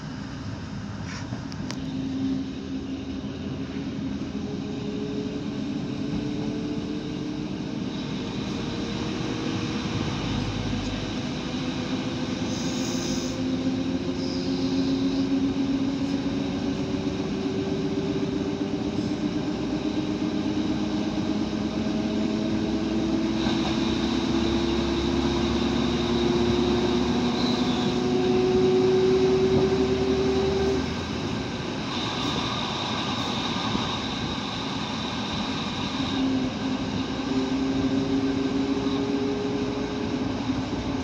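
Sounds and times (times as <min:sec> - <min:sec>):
diesel railcar engine working hard: 0:00.0 - 0:41.0.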